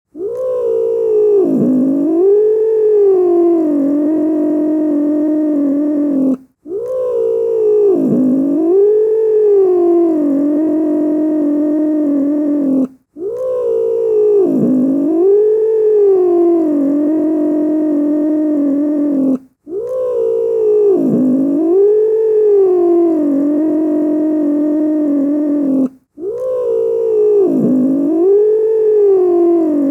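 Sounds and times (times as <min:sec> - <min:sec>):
cat growling: 0:00.2 - 0:29.9.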